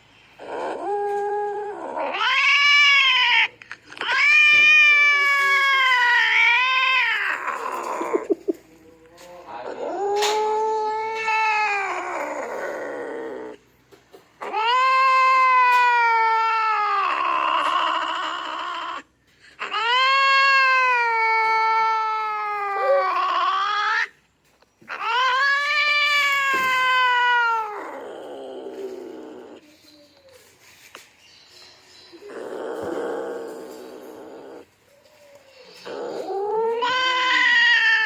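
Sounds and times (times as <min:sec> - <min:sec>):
cat yowling: 0:00.4 - 0:08.6, 0:09.6 - 0:13.6, 0:14.4 - 0:19.0, 0:19.6 - 0:24.1, 0:24.8 - 0:29.6, 0:32.2 - 0:34.7, 0:35.3 - 0:38.0.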